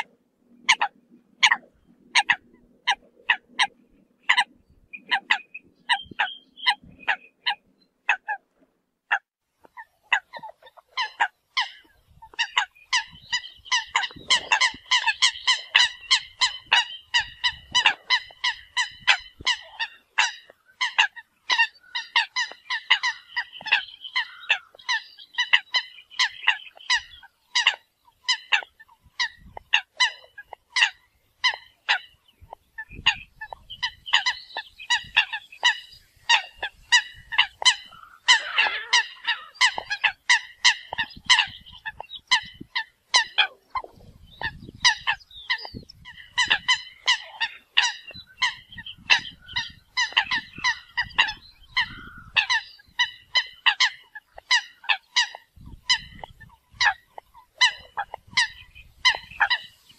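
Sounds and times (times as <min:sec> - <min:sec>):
flock of coots calling: 0:00.0 - 0:08.5, 0:09.1 - 0:59.9.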